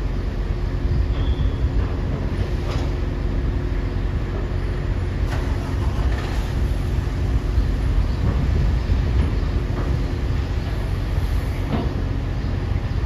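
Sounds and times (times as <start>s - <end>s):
low rumble of heavy engines: 0.0s - 13.0s.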